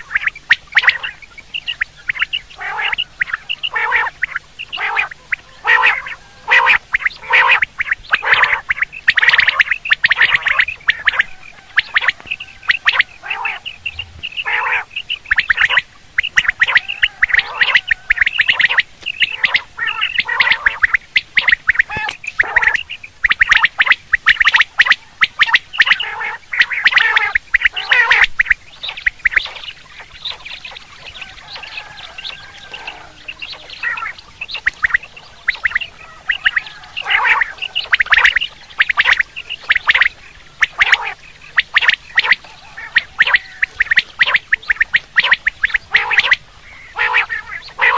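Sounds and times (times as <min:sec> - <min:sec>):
quail call: 0:00.0 - 0:47.9.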